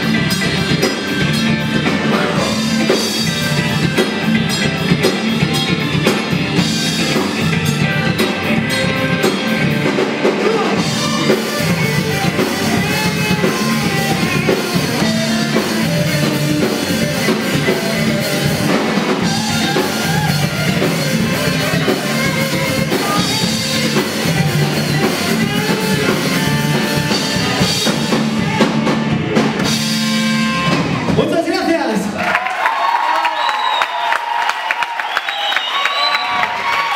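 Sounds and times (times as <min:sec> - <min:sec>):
live rock band playing: 0:00.0 - 0:32.2.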